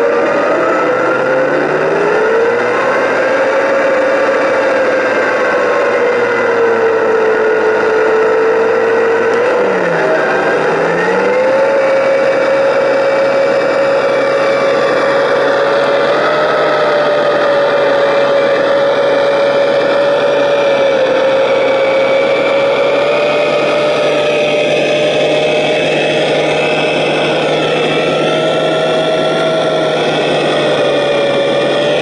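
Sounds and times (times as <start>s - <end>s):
electric drive whining: 0.0s - 32.0s.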